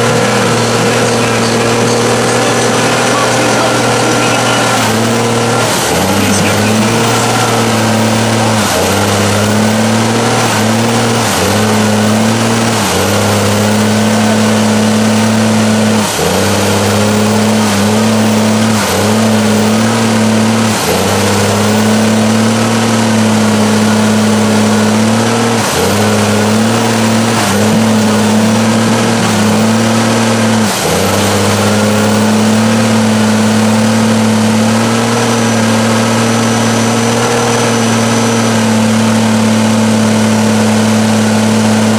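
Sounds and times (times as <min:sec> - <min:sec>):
diesel truck engine revving: 0:00.0 - 0:41.9.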